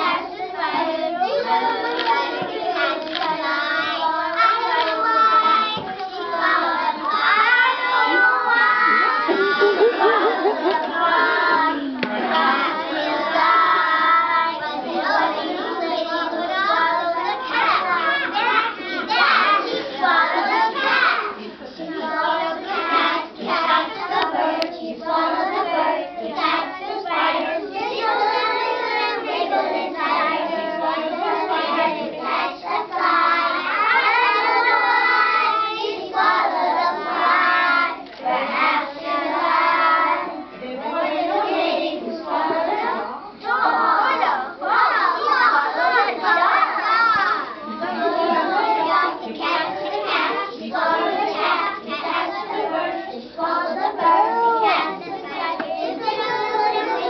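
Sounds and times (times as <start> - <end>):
young children singing: 0.0 - 57.0.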